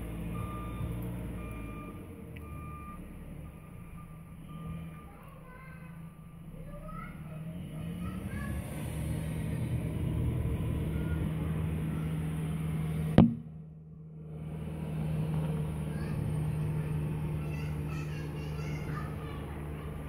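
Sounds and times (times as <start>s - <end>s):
snow plow engine running: 0.0s - 20.0s.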